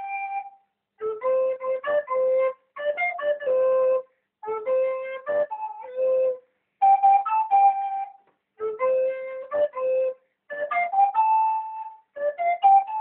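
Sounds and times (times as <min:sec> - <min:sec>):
recorder playing a melody: 0:00.0 - 0:13.0.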